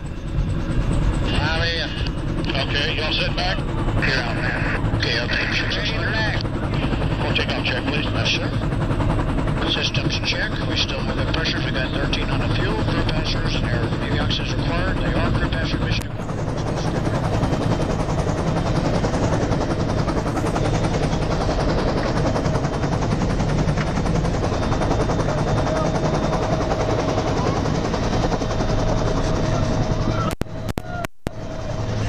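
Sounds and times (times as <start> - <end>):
helicopter rotor chopping: 0.0 - 32.0
steady engine whine: 0.0 - 32.0.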